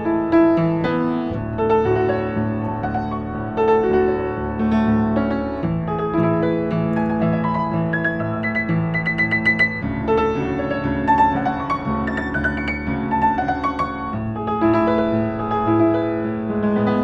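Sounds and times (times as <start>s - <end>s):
upright piano melody: 0.0s - 17.0s.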